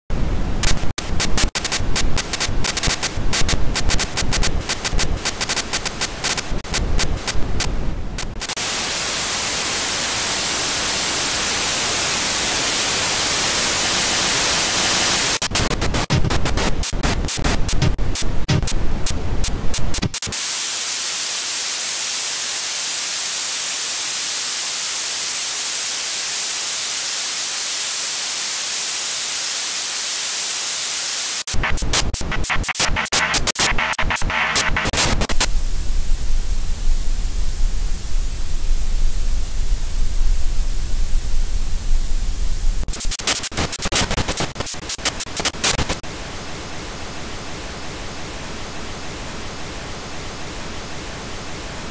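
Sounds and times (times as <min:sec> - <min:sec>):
white noise static crackling: 0:00.1 - 0:51.9.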